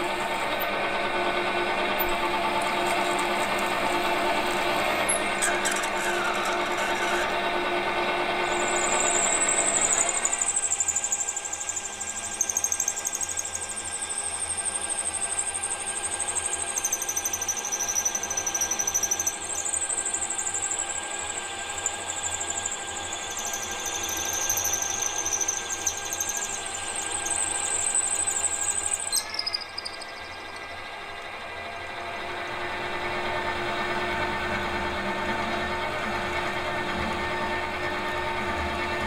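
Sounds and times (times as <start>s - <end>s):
drill cutting squeal in metal: 0.0s - 31.8s
lathe running hum: 0.0s - 39.0s.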